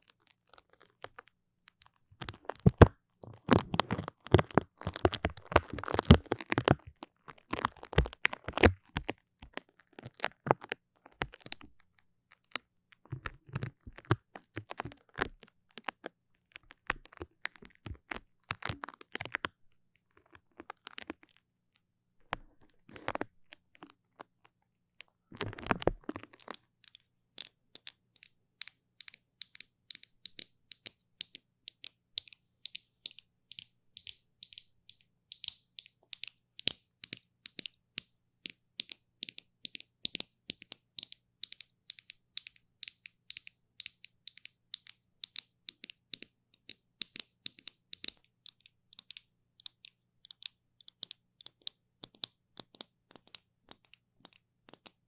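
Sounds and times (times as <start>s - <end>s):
sticky tacky crackly clicks: 0.0s - 21.4s, 25.3s - 32.3s, 33.0s - 55.0s.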